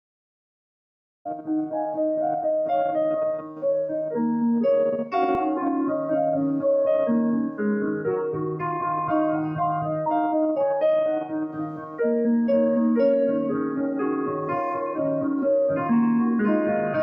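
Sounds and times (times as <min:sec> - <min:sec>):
slow piano music: 0:01.3 - 0:17.0.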